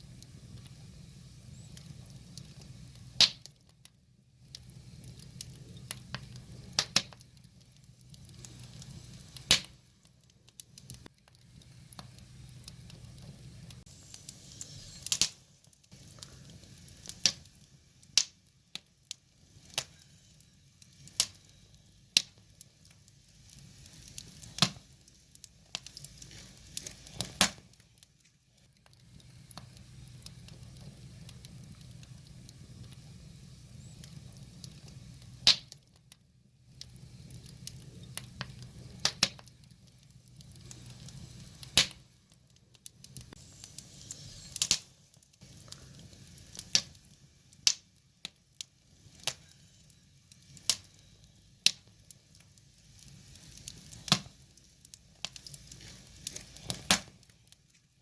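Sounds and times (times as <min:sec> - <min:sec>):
firewood crackling and popping: 0:00.0 - 0:58.0.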